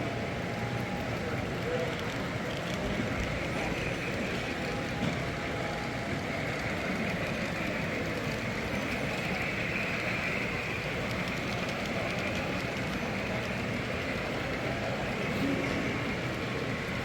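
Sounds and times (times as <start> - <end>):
model train motor and wheel hum: 0.0 - 17.0.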